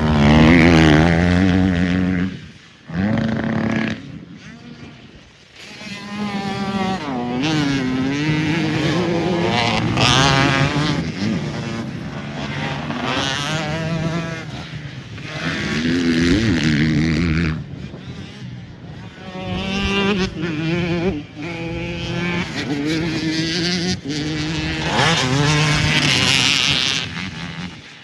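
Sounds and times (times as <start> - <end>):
motocross engines revving: 0.0 - 28.0.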